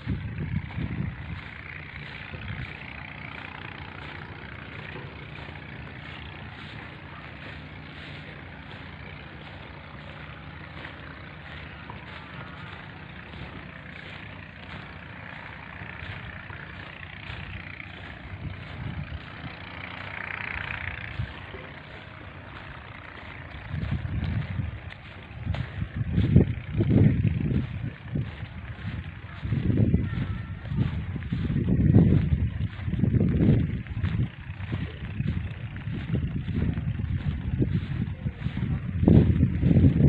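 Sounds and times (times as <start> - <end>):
outdoor rumble with hum and hiss: 0.0 - 40.0.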